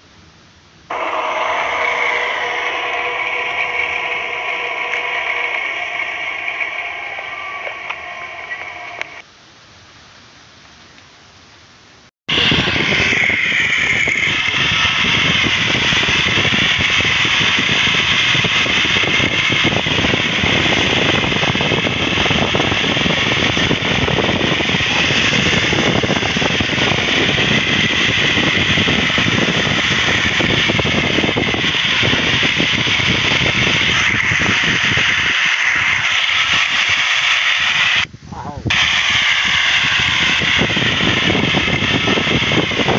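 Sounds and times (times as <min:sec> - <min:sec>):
harvester engine and machinery: 0:00.9 - 0:09.2, 0:12.3 - 0:42.9
wavering whine: 0:00.9 - 0:09.2, 0:12.3 - 0:42.9.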